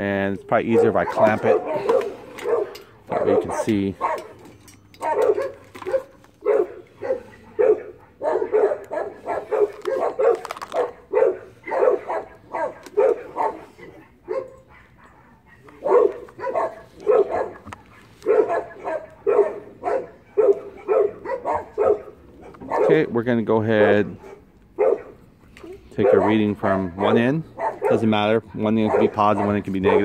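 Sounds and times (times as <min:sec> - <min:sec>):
dog barking: 0:00.7 - 0:04.4, 0:05.0 - 0:23.1, 0:24.1 - 0:25.2, 0:26.0 - 0:30.0.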